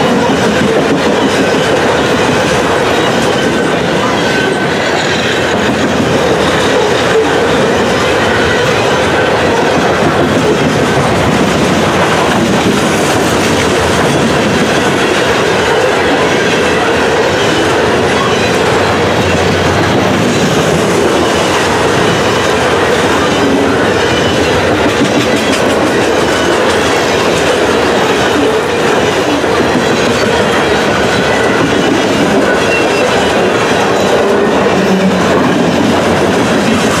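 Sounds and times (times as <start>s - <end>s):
train wheels running over rails: 0.0s - 37.0s.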